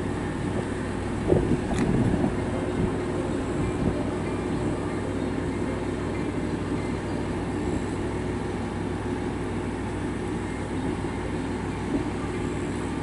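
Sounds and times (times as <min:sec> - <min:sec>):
diesel railcar rumble: 0:00.0 - 0:13.0.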